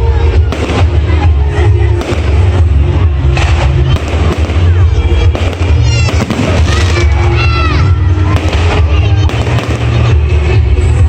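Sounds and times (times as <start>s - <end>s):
fireworks banging and crackling: 0.0s - 11.0s
loud music with heavy bass: 0.0s - 11.0s.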